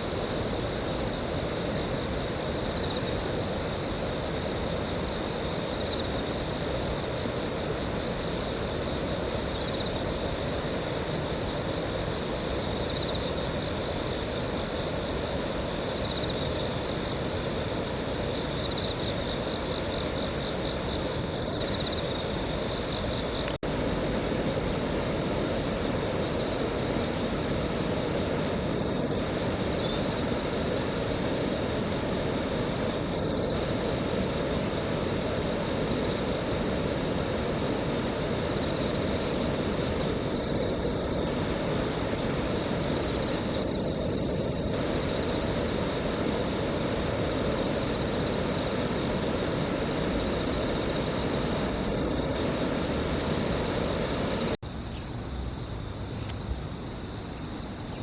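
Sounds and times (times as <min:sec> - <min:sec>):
high-pitched pulsing insect trill: 0:00.0 - 0:58.0.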